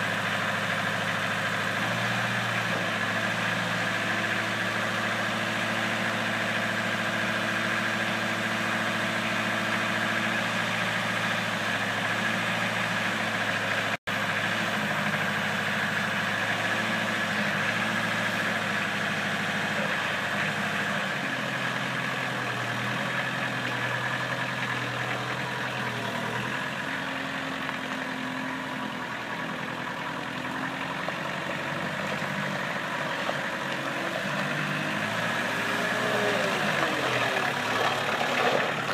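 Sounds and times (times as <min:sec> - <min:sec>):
forklift engine idling: 0:00.0 - 0:38.9.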